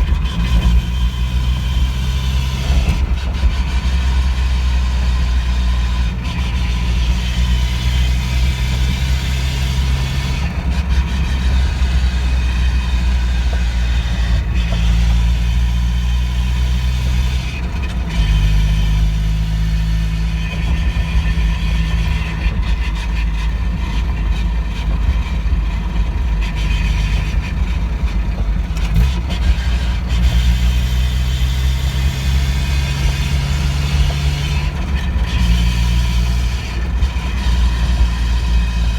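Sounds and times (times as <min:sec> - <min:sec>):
car engine running while driving: 0:00.0 - 0:38.9.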